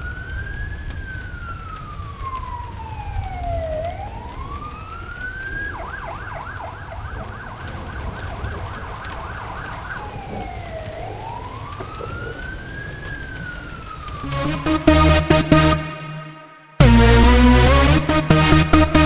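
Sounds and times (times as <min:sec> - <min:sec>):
siren wailing and yelping: 0:01.5 - 0:19.0.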